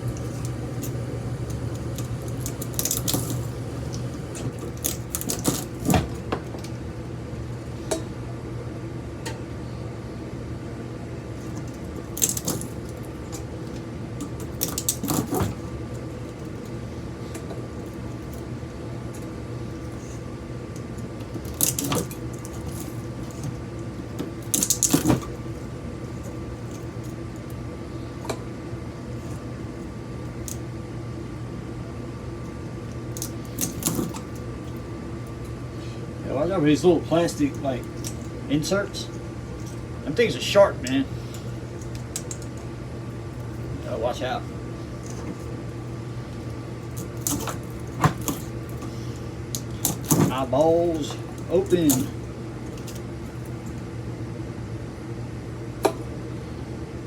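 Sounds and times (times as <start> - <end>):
background hum: 0.0 - 57.0.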